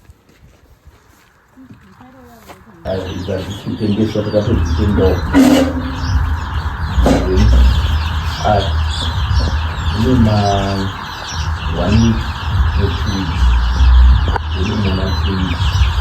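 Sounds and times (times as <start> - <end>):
low microphone rumble: 1.5 - 16.0
chickens clucking: 1.6 - 16.0.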